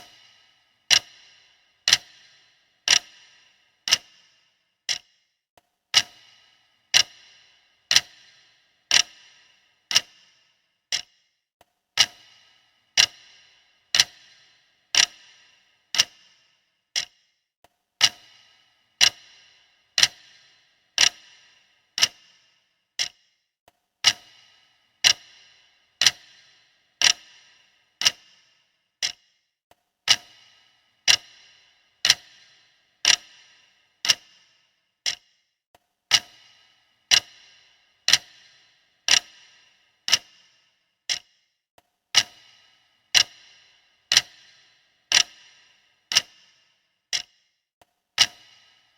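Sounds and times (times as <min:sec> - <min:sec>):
clock ticking: 0:00.0 - 0:11.4, 0:12.0 - 0:17.4, 0:18.0 - 0:23.4, 0:24.0 - 0:29.4, 0:30.0 - 0:35.5, 0:36.1 - 0:47.6, 0:48.2 - 0:48.9.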